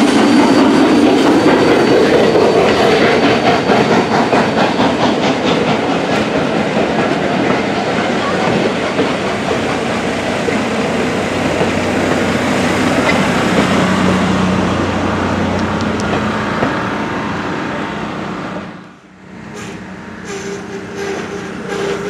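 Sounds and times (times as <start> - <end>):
train coaches rumbling past: 0.0 - 22.0.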